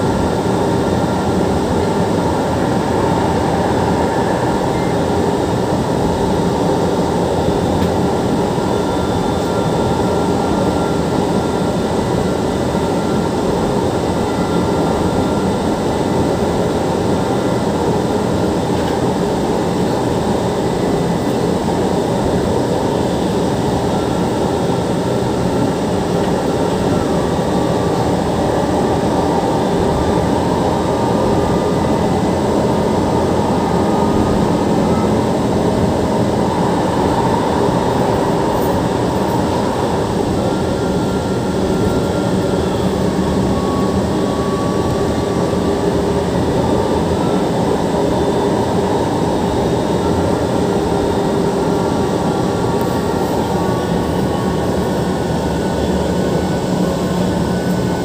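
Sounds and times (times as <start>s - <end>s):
faint whining tones: 0.0s - 58.0s
train wheels rumbling on rails: 0.0s - 58.0s.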